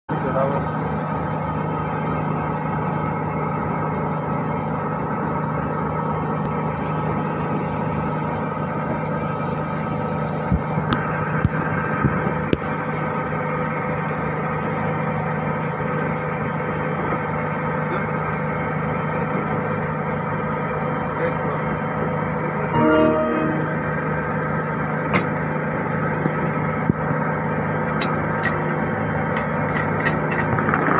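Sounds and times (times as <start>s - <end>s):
boat engine droning: 0.1s - 30.9s.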